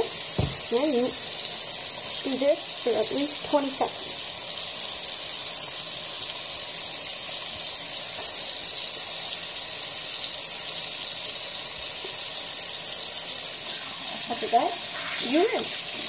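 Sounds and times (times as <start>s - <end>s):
faucet running into sink: 0.0s - 16.0s.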